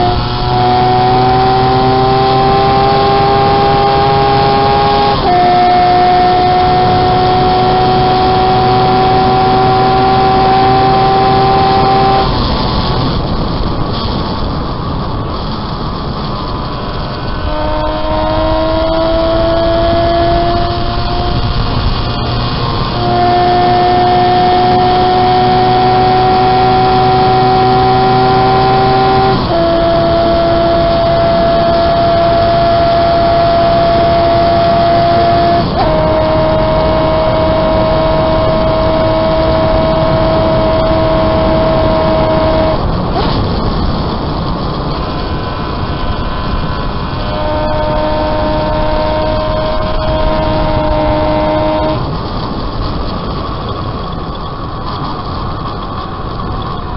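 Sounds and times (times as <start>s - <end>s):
motorcycle engine at high revs: 0.0s - 56.9s
wind rush: 0.0s - 56.9s.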